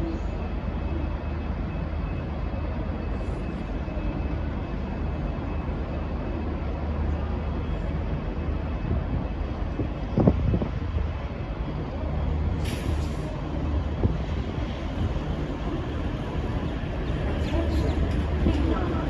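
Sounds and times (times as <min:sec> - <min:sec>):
diesel locomotive rumbling: 0:00.0 - 0:19.0.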